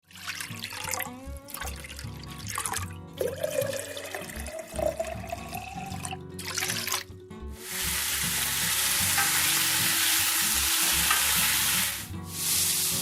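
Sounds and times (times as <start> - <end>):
running water: 0.0 - 13.0
background music with bass line: 0.5 - 13.0.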